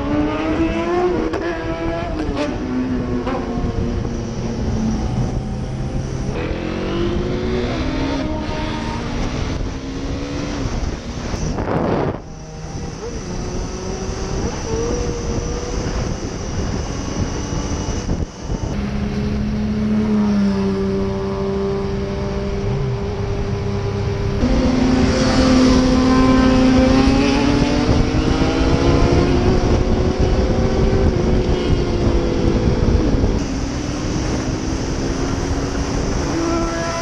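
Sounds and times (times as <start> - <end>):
motorcycle engine accelerating: 0.0 - 37.0
wind rush on microphone: 0.0 - 37.0.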